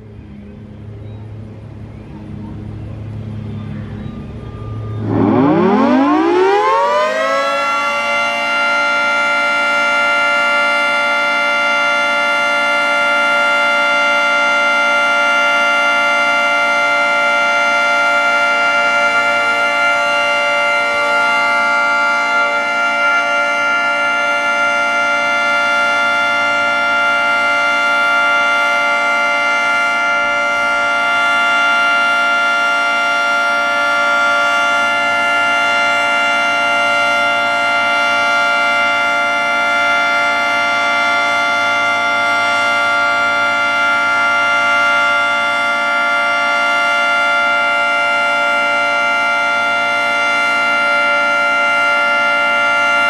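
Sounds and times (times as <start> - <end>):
multi-tone warning siren: 0.0 - 53.0.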